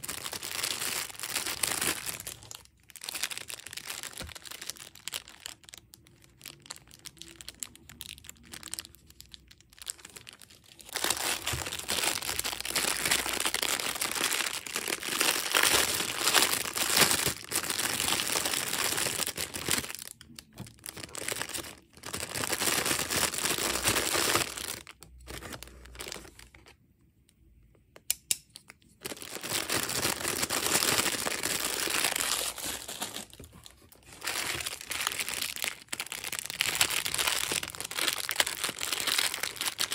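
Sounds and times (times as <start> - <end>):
plastic bags crinkling: 0.0 - 26.7, 29.0 - 39.9.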